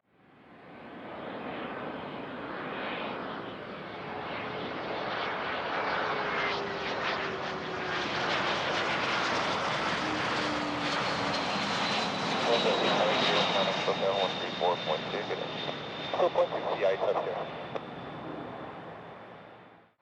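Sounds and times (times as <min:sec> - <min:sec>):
jet engines running: 0:01.3 - 0:19.8.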